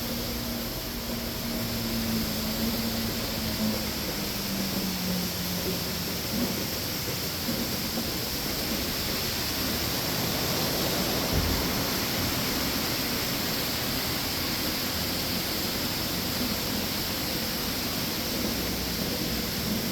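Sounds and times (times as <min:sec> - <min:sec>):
milking machinery hissing: 0:00.0 - 0:19.9.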